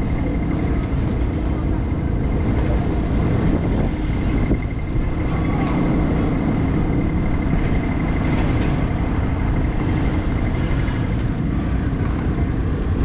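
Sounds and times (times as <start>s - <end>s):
road traffic rumble: 0.0s - 13.0s
wind on microphone: 0.0s - 13.0s.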